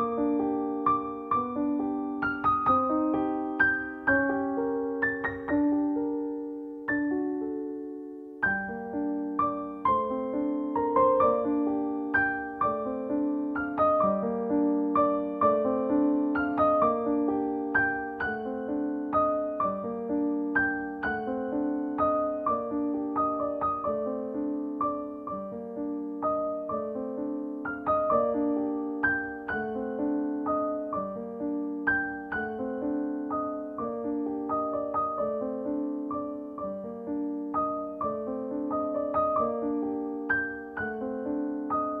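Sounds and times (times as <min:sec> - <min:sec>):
gentle keyboard melody: 0:00.0 - 0:42.0.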